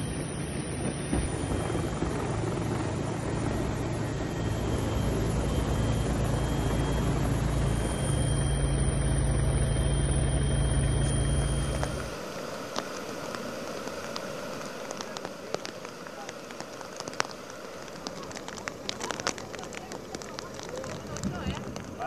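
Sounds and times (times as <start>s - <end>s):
helicopter rotor drone: 0.0s - 22.0s.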